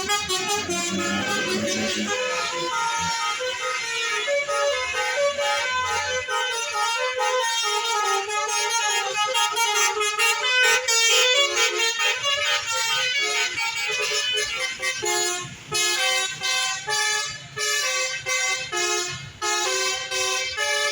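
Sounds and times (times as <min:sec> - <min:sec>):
musical air horn melody: 0:00.0 - 0:20.9.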